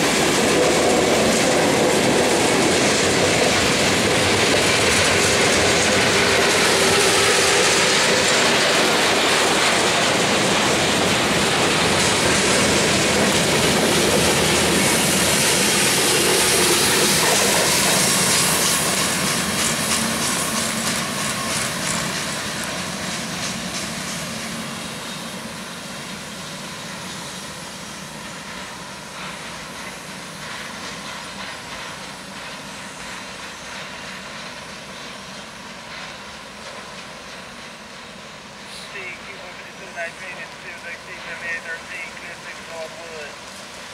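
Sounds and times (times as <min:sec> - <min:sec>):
train wheels clacking on rails: 0:00.0 - 0:43.9.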